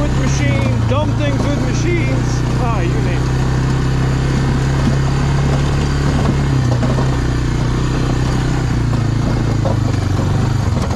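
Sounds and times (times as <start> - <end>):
atv engine running: 0.0 - 10.9.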